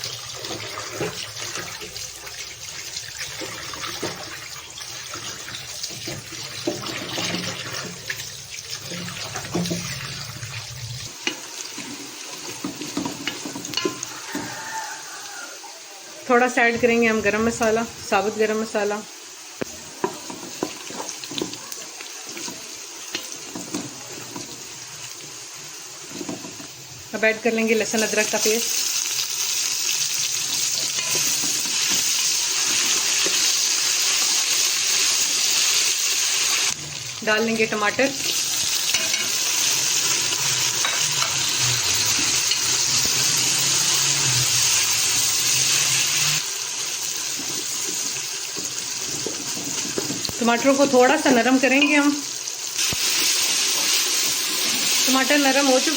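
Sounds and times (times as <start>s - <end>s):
onions and spices sizzling in oil: 0.0s - 55.9s.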